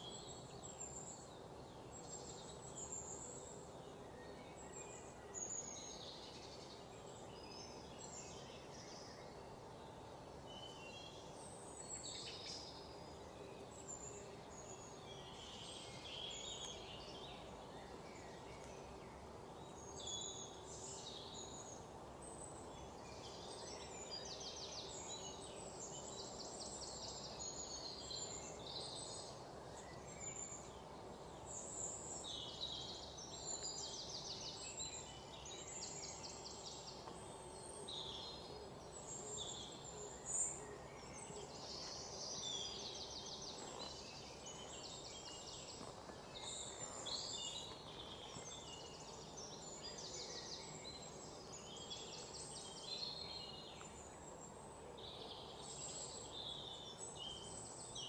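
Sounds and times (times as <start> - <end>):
birds singing: 0.0 - 58.0
faint steady hiss: 0.0 - 58.0.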